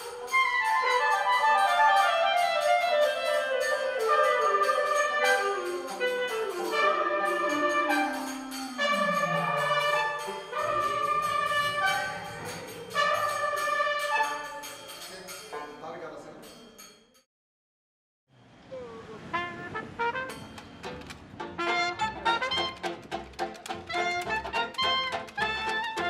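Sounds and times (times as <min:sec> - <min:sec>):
brass and woodwind music: 0:00.0 - 0:14.9, 0:19.2 - 0:20.6, 0:21.4 - 0:26.0.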